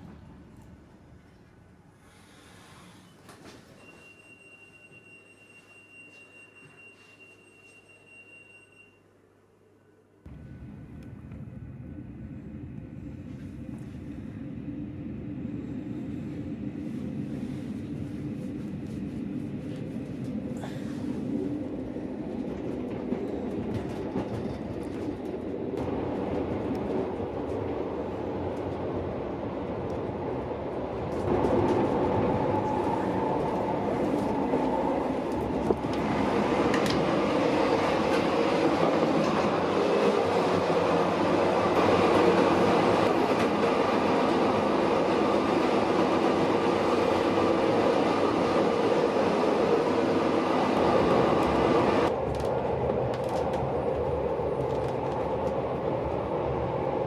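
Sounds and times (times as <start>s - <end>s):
train running on rails: 10.3s - 57.0s.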